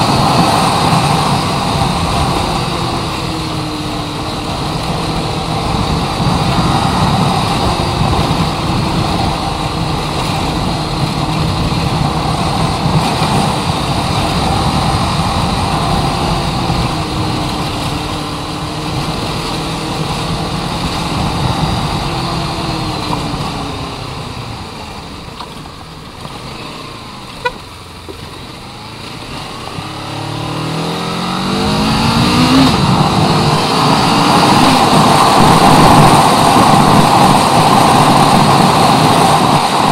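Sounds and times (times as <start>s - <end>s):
wind rush: 0.0s - 24.8s, 28.8s - 39.9s
motorcycle engine running: 0.0s - 39.9s.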